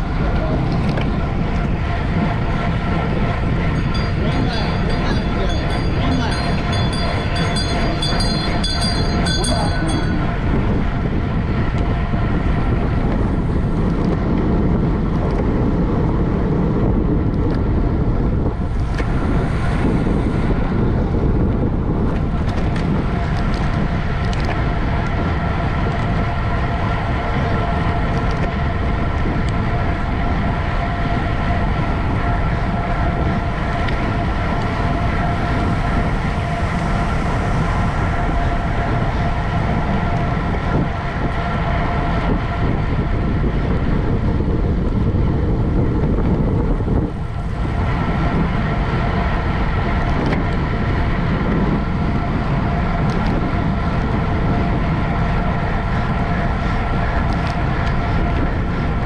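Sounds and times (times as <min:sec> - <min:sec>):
bicycle tyres and drivetrain humming: 0:00.0 - 0:59.0
wind rushing over microphone: 0:00.0 - 0:59.0.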